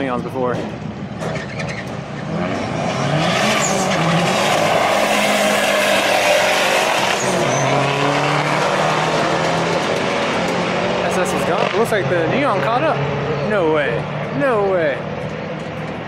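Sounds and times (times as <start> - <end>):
drag car engines accelerating: 0.0 - 16.0.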